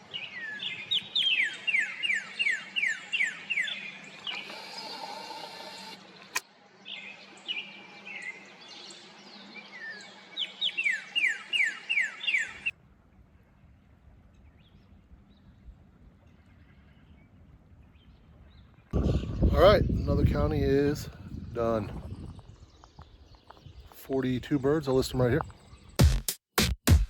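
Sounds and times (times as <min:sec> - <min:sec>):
songbirds singing: 0:00.0 - 0:26.0
faint outdoor background: 0:00.0 - 0:27.0.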